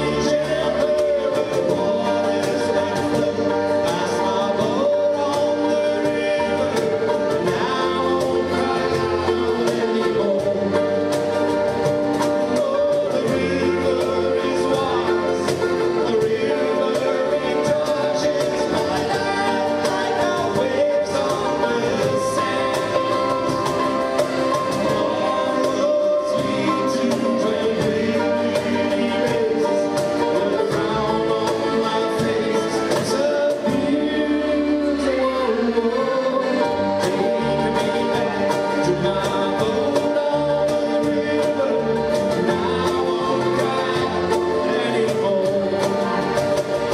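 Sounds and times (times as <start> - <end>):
accordion: 0.0 - 46.9
acoustic band playing: 0.0 - 46.9
cajon beat: 0.0 - 46.9
person singing: 0.0 - 46.9.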